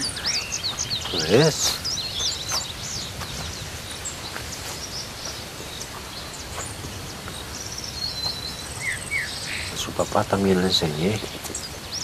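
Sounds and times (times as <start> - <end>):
faint bird chirps: 0.0 - 12.0
wind and rustling: 0.0 - 12.0.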